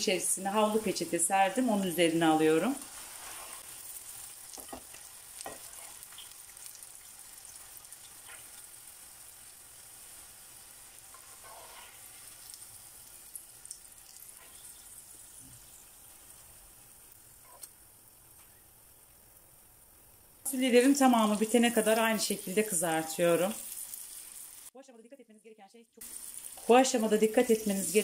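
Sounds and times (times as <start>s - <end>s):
oil sizzling in a frying pan: 0.0s - 24.8s, 26.0s - 28.0s.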